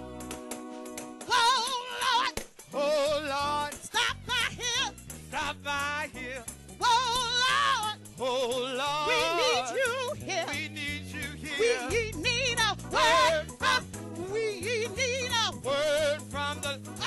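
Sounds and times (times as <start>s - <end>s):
bass line: 0.0s - 1.7s, 2.8s - 17.0s
gospel singing with vibrato: 0.0s - 17.0s.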